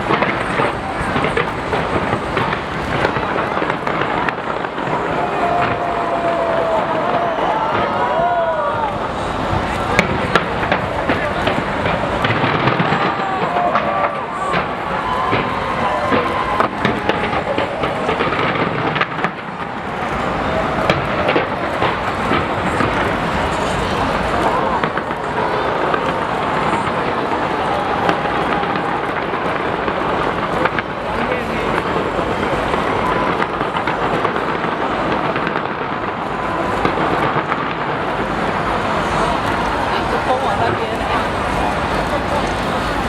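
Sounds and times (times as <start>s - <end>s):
continuous rumbling din: 0.0s - 43.0s
fireworks bangs and crackles: 0.0s - 43.0s.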